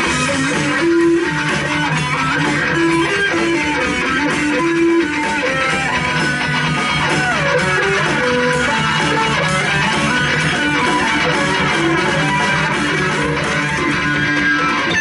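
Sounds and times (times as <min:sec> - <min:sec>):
electric guitar sustained notes: 0:00.0 - 0:15.0
rock band playing: 0:00.0 - 0:15.0.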